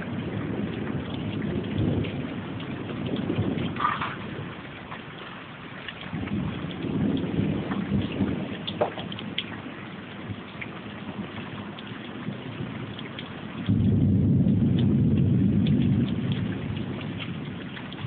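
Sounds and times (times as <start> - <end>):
low thunder rumble: 0.0 - 18.0
raindrops ticking: 0.0 - 18.0
steady rain: 0.0 - 18.0.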